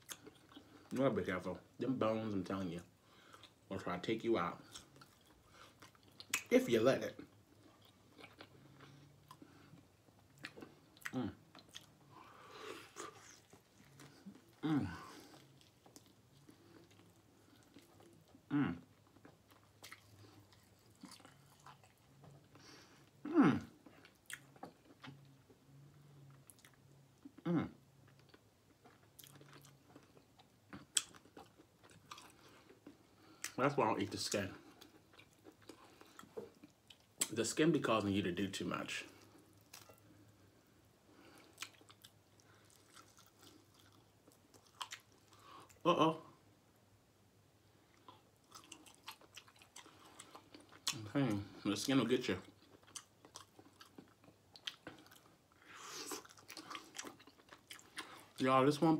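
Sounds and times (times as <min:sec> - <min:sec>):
person chewing: 0:00.0 - 0:00.9, 0:03.2 - 0:03.6, 0:04.6 - 0:06.5, 0:07.2 - 0:25.6, 0:26.2 - 0:33.6, 0:34.6 - 0:37.4, 0:39.1 - 0:40.4, 0:41.2 - 0:45.8, 0:47.9 - 0:51.7, 0:52.4 - 0:58.4.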